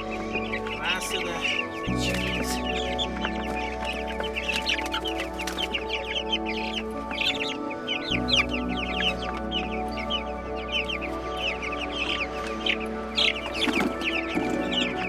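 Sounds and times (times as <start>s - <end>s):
background music: 0.0s - 15.0s
chicks peeping: 0.0s - 15.0s.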